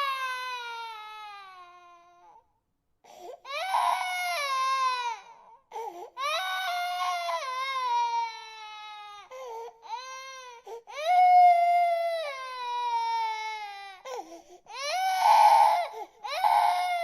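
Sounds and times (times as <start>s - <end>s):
infant crying: 0.0s - 2.4s, 3.1s - 17.0s.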